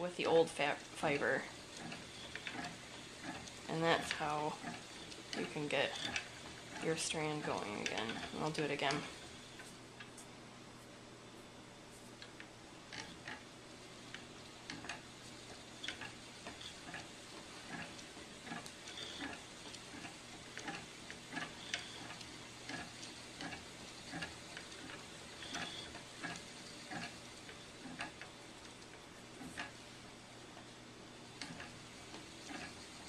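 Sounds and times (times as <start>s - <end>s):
spinning wheel clicking: 0.2s - 9.7s, 14.0s - 30.0s, 31.3s - 33.0s.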